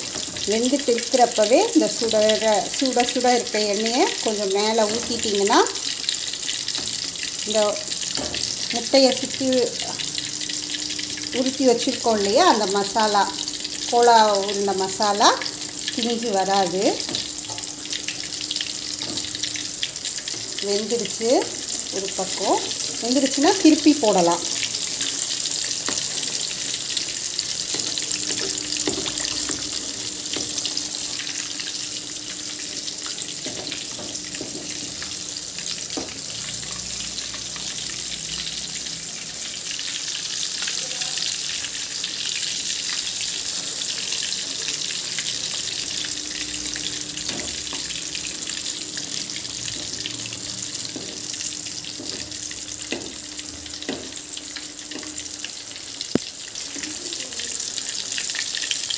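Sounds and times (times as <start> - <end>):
oil sizzling: 0.0 - 58.9.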